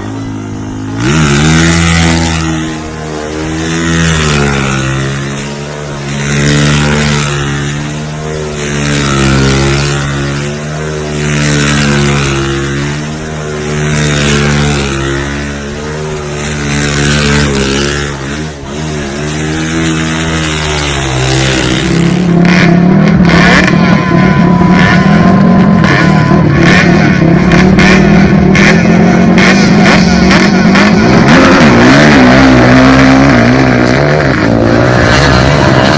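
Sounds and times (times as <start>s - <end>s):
off-road vehicle engine revving: 0.0s - 35.9s
rough engine with rattling knocks: 0.0s - 35.9s.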